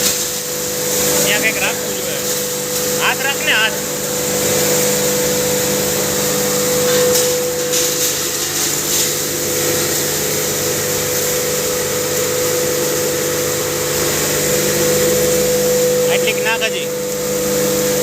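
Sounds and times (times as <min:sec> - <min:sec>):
hammer mill running with whine: 0:00.0 - 0:18.0.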